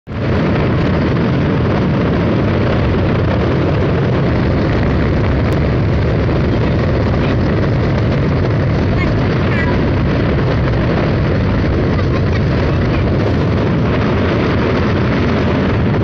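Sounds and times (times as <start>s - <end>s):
ferry engine drone: 0.0s - 16.0s
water rushing along hull: 0.0s - 16.0s.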